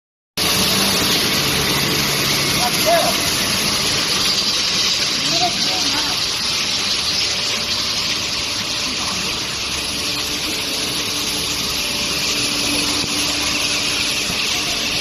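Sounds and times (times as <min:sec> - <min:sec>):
industrial machinery hiss: 0:00.4 - 0:15.0.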